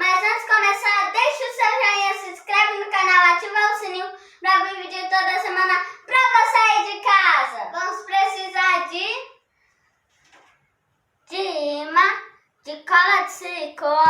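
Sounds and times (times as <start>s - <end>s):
child singing unaccompanied: 0.0s - 9.2s, 11.3s - 14.0s.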